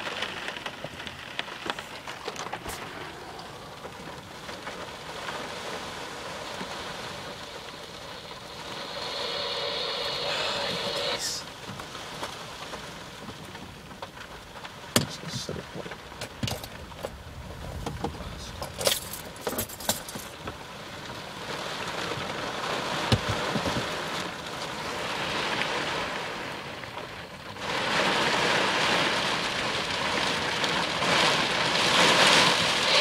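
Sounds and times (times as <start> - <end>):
rain drops hitting car glass: 0.0 - 33.0
rain hiss: 0.0 - 33.0.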